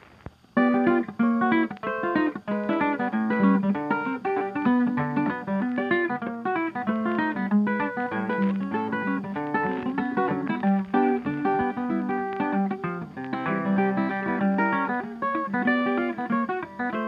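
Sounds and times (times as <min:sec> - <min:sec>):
plucked guitar notes: 0:00.6 - 0:17.0.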